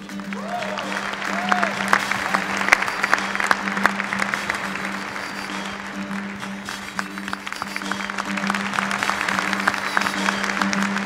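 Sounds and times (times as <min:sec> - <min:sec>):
audience applauding: 0:00.0 - 0:11.0
stage music with held low note: 0:00.0 - 0:11.0.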